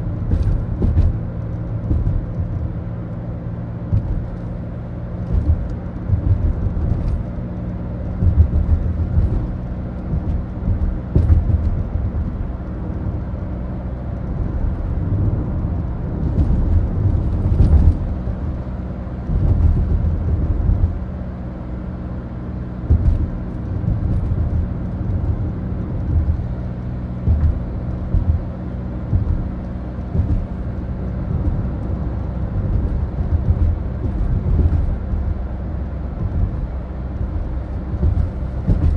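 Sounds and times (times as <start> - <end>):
diesel engine drone: 0.0 - 38.9
road rumble: 0.0 - 38.9.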